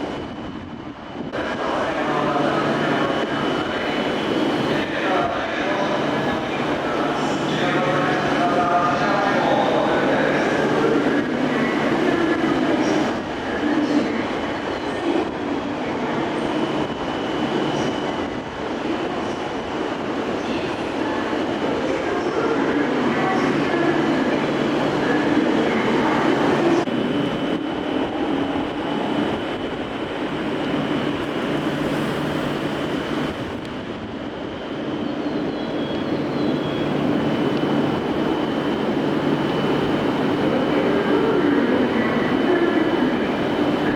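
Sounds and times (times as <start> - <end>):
train rail noise: 0.0 - 43.9.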